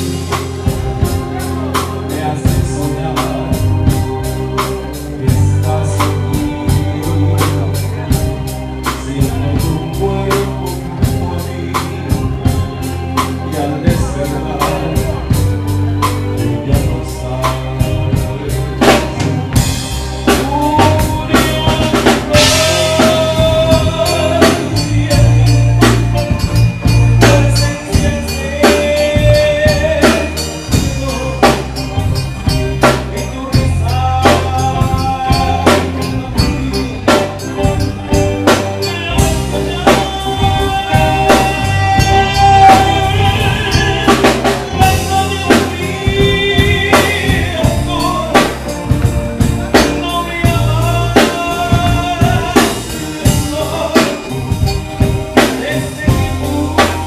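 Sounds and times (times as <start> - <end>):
drum kit beat: 0.0 - 57.0
electric bass line: 0.0 - 57.0
live band playing: 0.0 - 57.0.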